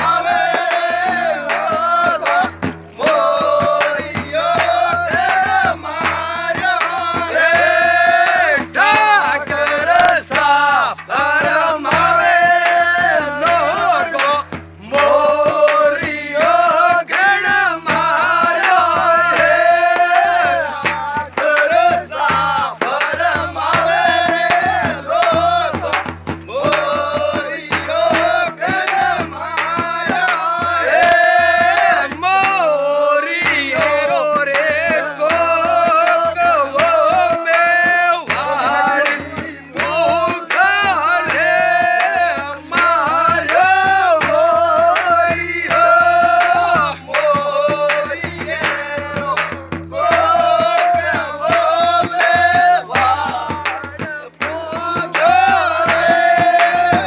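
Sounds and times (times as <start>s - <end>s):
drum beat: 0.0s - 57.0s
man singing: 0.0s - 57.0s.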